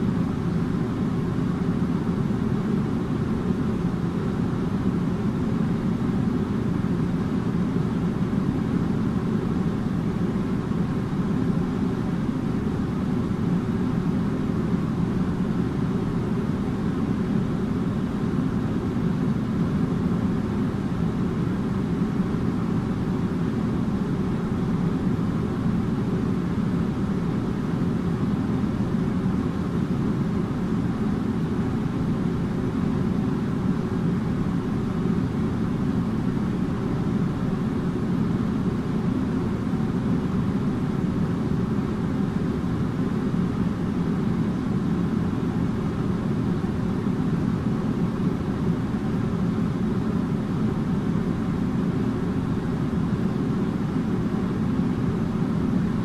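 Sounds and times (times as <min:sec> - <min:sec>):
air conditioner running: 0:00.0 - 0:56.0.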